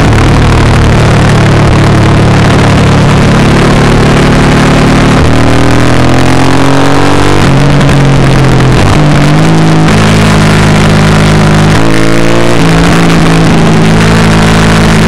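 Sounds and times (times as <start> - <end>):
motorcycle engine at speed: 0.0 - 15.0
wind rush: 0.0 - 15.0.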